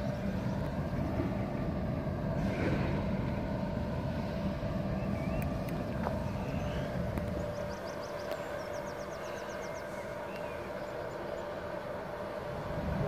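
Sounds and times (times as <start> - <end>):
low outdoor rumble: 0.0 - 13.0
mid-pitched hum: 0.0 - 13.0.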